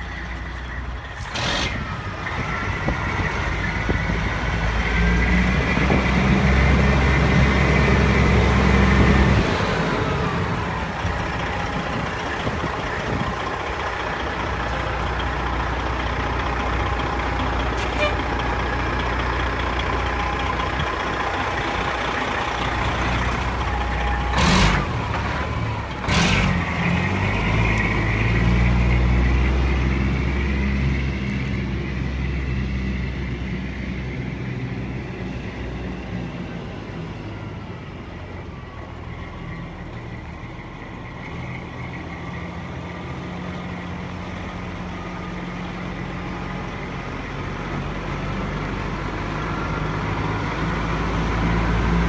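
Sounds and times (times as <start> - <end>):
diesel truck engine idling: 0.0 - 52.0.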